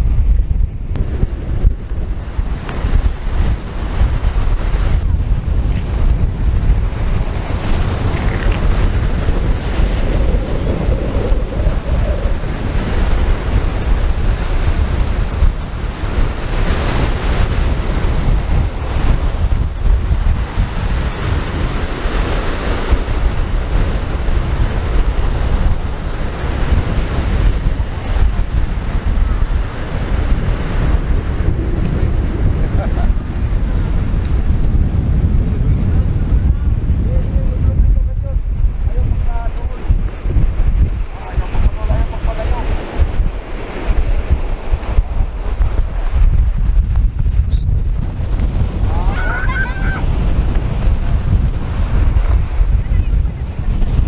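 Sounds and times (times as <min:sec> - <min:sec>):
surf breaking on beach: 0:00.0 - 0:54.0
wind buffeting microphone: 0:00.0 - 0:54.0.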